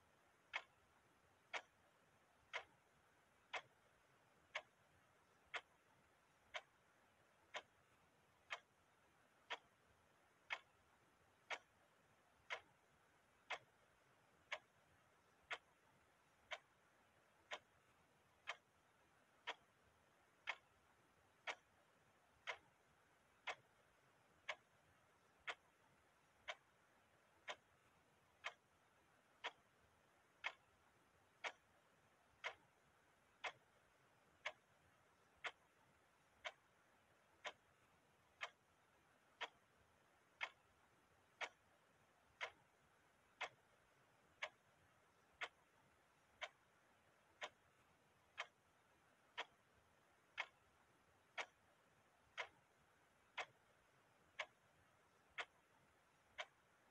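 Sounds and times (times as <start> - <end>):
clock ticking: 0.0 - 56.9.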